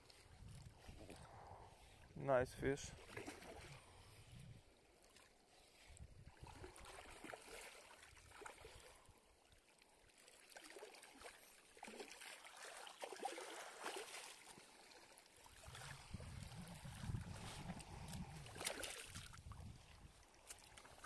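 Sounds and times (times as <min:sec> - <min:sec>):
small waves lapping on shore: 0:00.0 - 0:21.0.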